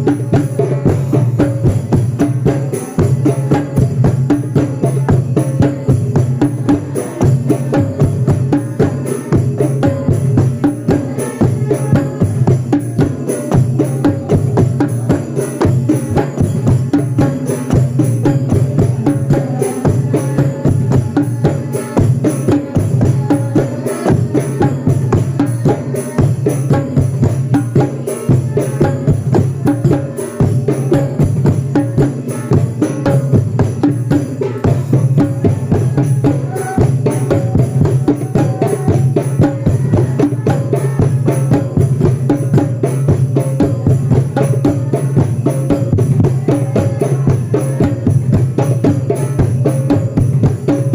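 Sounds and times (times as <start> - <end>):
drums: 0.0 - 50.9
jingling percussion: 0.0 - 50.9.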